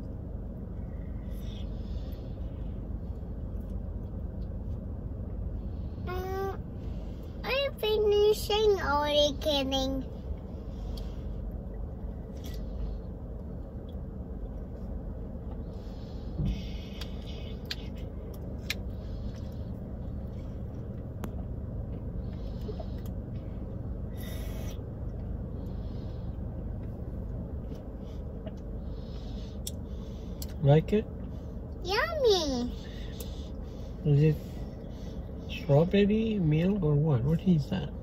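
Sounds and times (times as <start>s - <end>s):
low rumble inside car: 0.0s - 38.0s.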